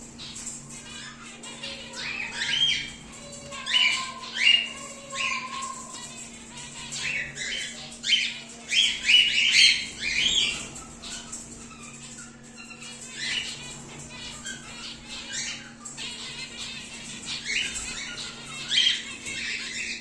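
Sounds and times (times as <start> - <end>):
cockatiels squawking and chirping: 0.0 - 20.0
steady low hum: 0.0 - 20.0.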